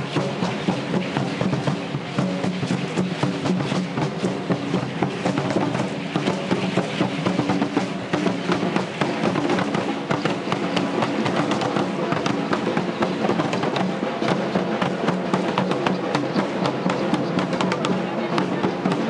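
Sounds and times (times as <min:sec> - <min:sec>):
drum beating: 0:00.0 - 0:19.0.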